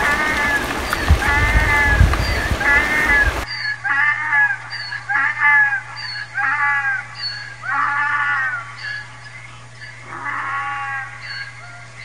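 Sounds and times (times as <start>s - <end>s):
animal calling high-pitched: 0.0s - 9.1s, 9.8s - 12.0s.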